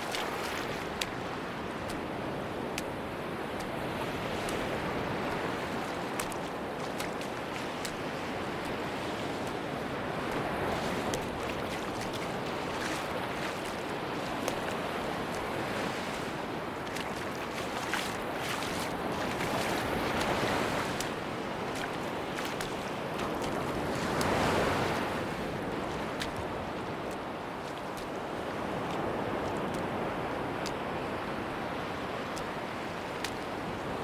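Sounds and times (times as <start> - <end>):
waves breaking on beach: 0.0 - 34.0.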